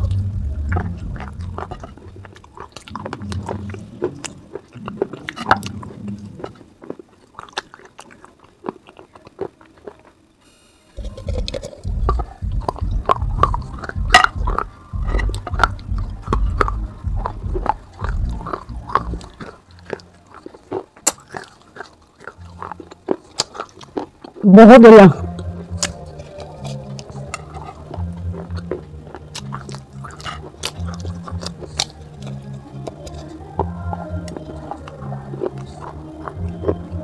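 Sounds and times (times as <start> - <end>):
clay pot crunching: 0.0 - 10.2, 11.0 - 37.0
heavy close chewing: 0.0 - 10.3, 11.0 - 37.0.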